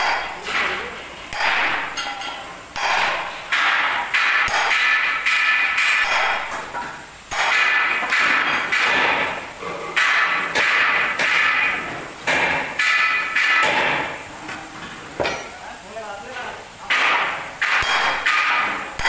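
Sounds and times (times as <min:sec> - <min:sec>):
hammer striking steel: 0:00.0 - 0:09.4, 0:10.0 - 0:14.2, 0:15.2 - 0:15.6, 0:16.9 - 0:19.0.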